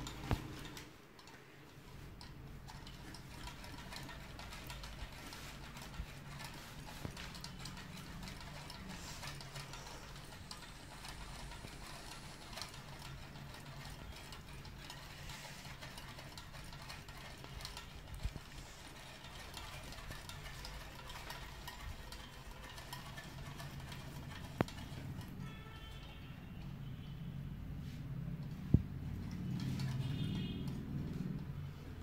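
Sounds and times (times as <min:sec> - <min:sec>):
engine flywheel clicking and knocking: 0:00.0 - 0:27.0, 0:27.6 - 0:32.0.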